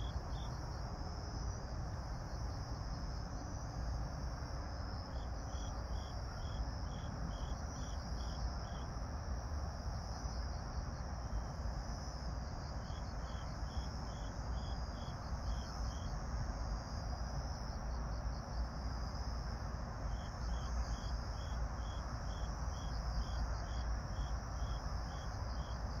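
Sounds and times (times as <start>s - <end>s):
continuous insect trill: 0.0s - 26.0s
cricket chirps: 0.0s - 26.0s.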